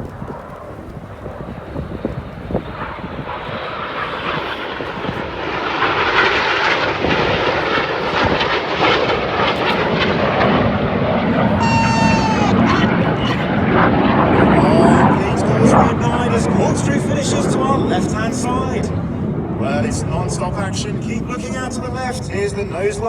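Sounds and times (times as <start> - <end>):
jet engines roaring past: 0.0 - 23.0.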